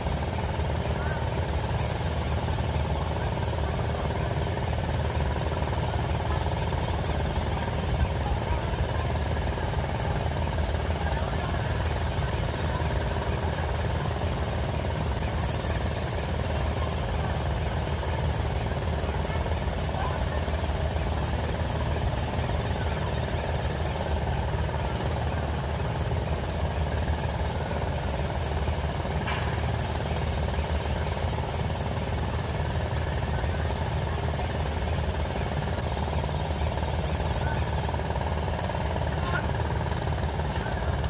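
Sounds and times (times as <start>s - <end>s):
heavy engine rumbling: 0.0s - 41.0s.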